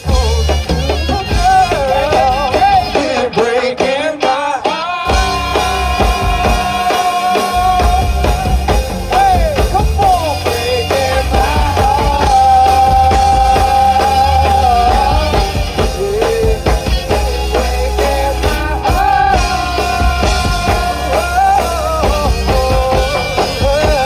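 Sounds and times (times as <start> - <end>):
heavy bass: 0.0 - 4.1, 5.1 - 24.0
drum kit: 0.0 - 24.0.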